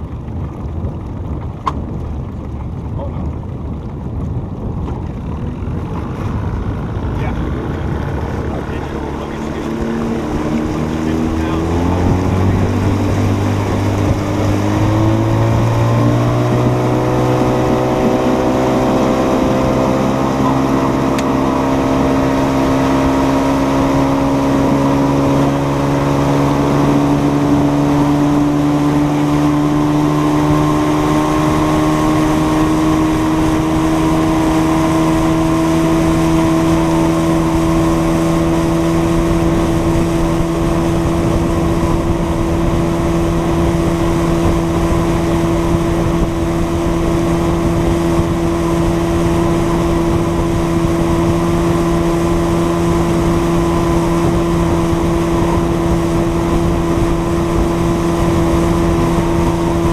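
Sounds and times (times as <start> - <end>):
boat engine droning: 0.0 - 59.9
rush of wind and water: 0.0 - 59.9.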